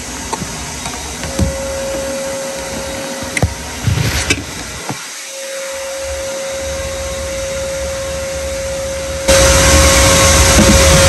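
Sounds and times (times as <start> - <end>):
electric motor whining: 1.0 - 11.0.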